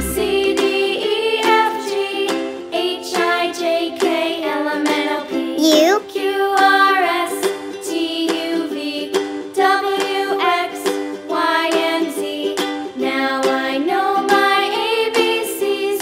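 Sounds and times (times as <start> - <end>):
cheerful music with plucked strings: 0.0 - 16.0.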